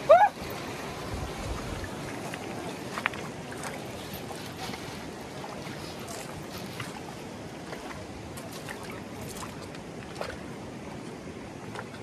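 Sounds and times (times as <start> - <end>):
rushing water: 0.0 - 12.0
sharp ticks and splashes: 0.4 - 12.0.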